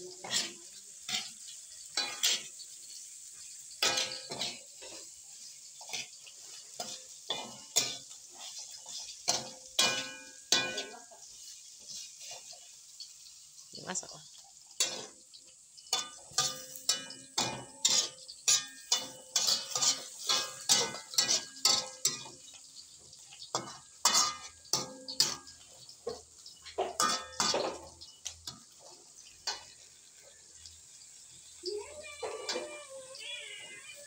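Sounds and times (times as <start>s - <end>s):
metal spatula scraping a wok: 0.0s - 33.3s.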